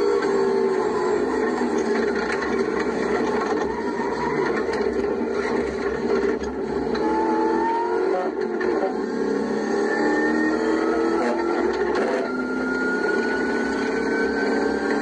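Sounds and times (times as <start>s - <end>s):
racing engine running hard: 0.0s - 15.0s.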